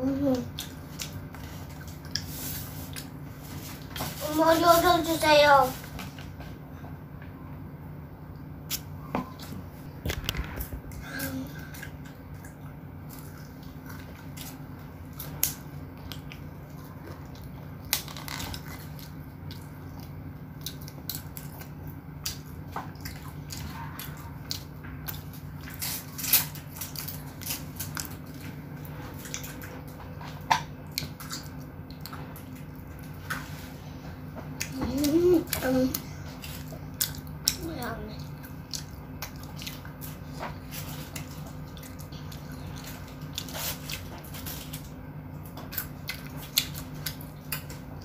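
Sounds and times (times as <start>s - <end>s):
child chewing crunchy fries: 0.0s - 7.1s, 8.2s - 48.0s
steady low hum: 0.0s - 48.0s.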